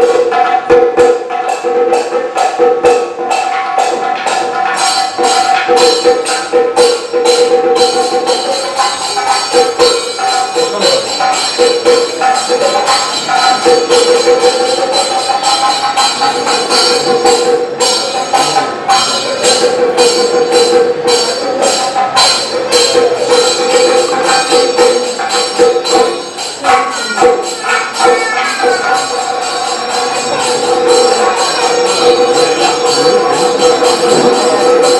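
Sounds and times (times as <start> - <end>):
jingling metal percussion: 0.0 - 34.9.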